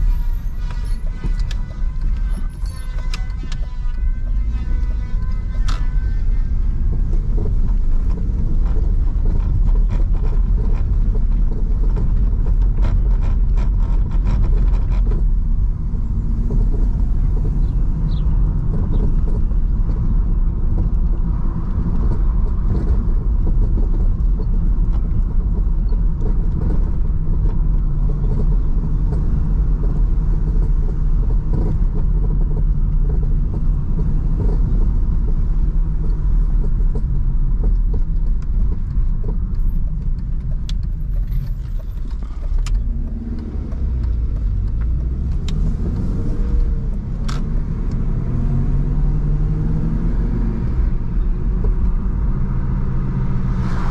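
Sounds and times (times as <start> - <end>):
car engine running: 0.0 - 53.9
tyre and road rumble: 0.0 - 53.9.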